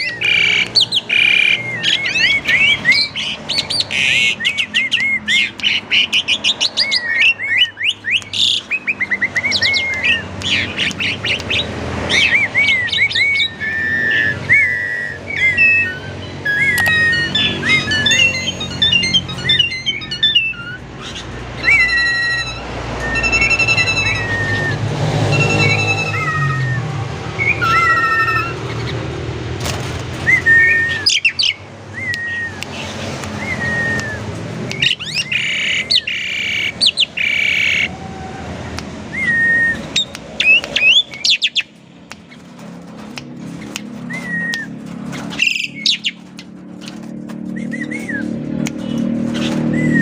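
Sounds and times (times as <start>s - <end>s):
starling singing whistled notes: 0.0s - 29.1s, 30.2s - 37.9s, 39.1s - 42.4s, 43.6s - 50.0s.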